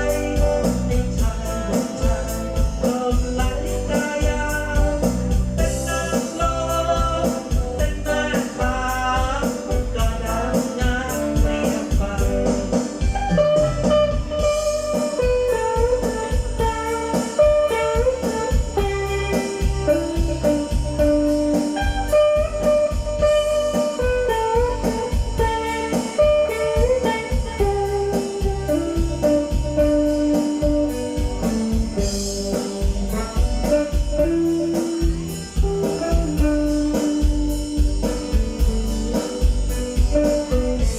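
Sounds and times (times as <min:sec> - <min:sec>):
guitar music with bass beat: 0:00.0 - 0:40.9.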